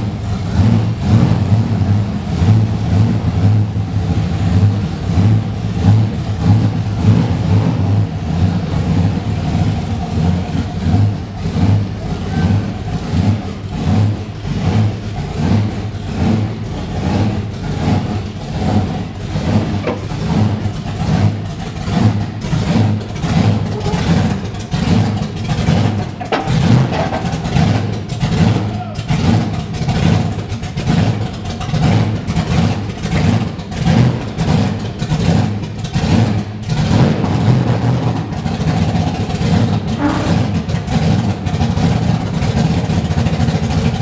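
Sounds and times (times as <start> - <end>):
truck engine idling: 0.0 - 44.0.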